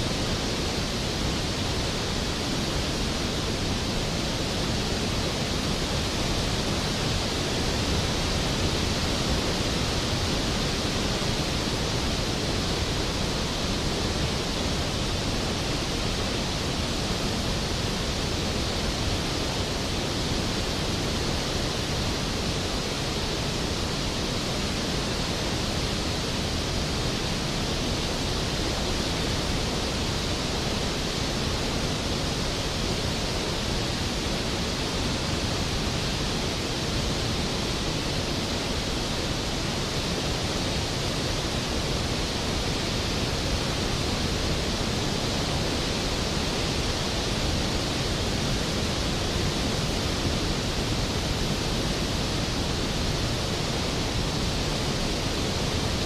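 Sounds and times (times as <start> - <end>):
waterfall rushing: 0.2 - 56.0.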